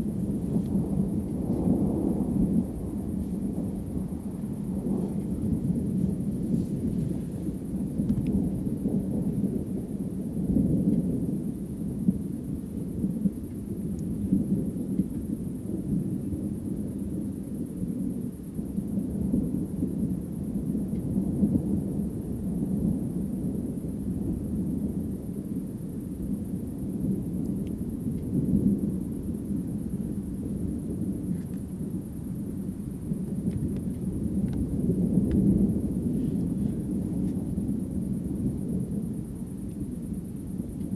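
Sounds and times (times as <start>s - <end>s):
distant thunder rumbling: 0.0s - 40.9s.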